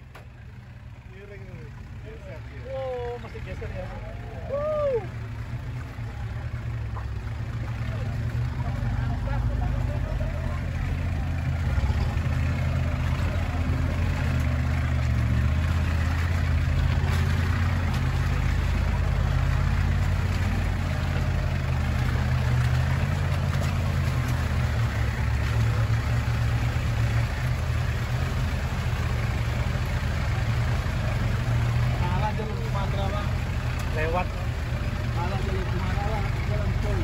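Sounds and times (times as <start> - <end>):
car engine running at low revs: 0.0 - 37.0
road and body rumble: 0.0 - 37.0.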